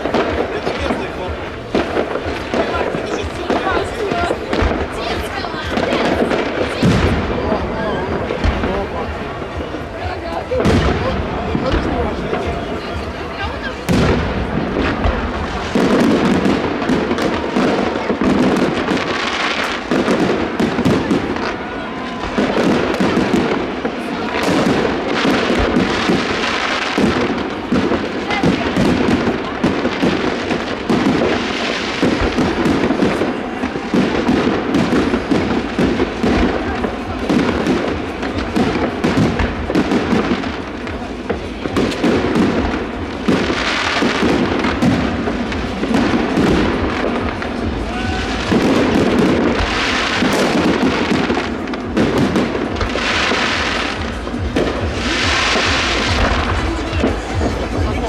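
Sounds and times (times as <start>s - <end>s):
crowd voices: 0.0s - 58.0s
fireworks bangs and crackling: 0.0s - 58.0s.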